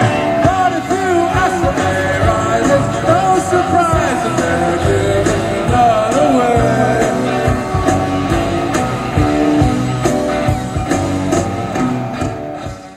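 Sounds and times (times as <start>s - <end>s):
rock music: 0.0s - 12.9s.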